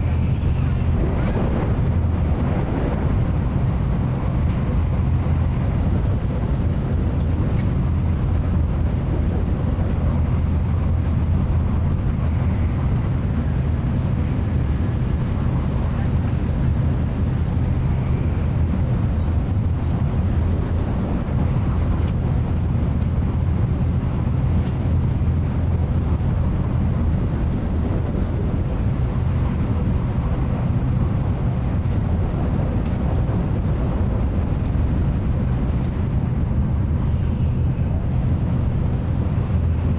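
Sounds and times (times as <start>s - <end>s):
train cabin deep rumble: 0.0s - 39.9s.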